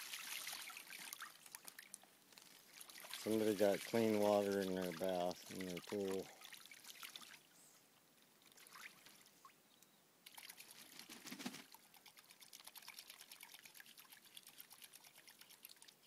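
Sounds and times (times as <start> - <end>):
water splashing and dripping: 0.0 - 7.5, 8.3 - 9.3, 10.2 - 16.0.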